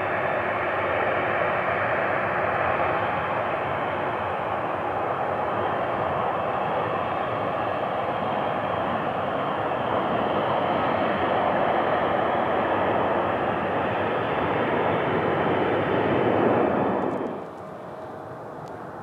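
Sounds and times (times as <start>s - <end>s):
jet engine of taxiing airliner: 0.0s - 19.0s.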